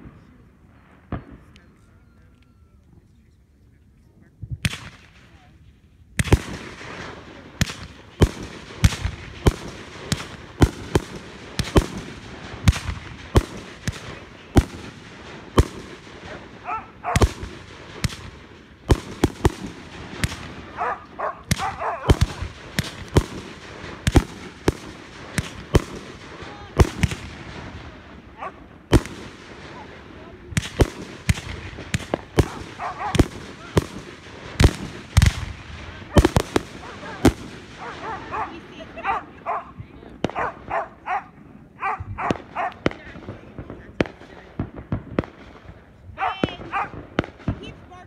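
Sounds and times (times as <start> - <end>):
fireworks bursting: 6.2 - 48.0.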